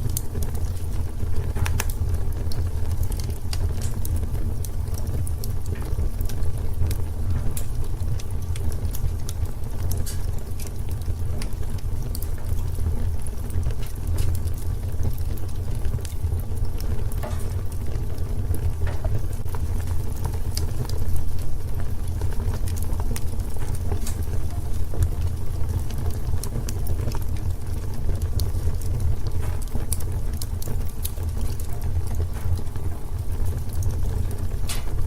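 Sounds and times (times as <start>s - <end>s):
burning wood popping: 0.0s - 35.0s
low rumble of flames: 0.0s - 35.0s.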